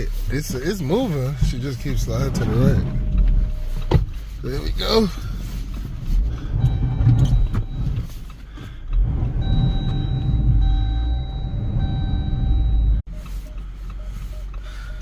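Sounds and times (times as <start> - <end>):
car engine running under load: 0.1 - 15.0.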